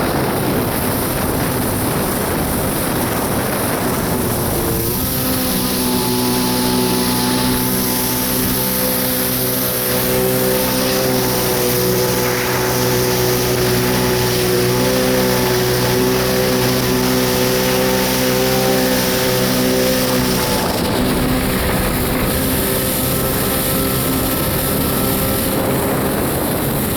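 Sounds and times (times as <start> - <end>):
jet ski engine running: 0.0 - 26.9.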